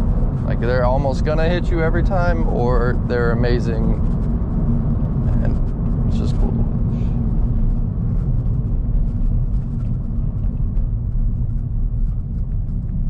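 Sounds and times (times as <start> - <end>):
car engine rumble: 0.0 - 13.0
tyre and road noise: 0.0 - 13.0.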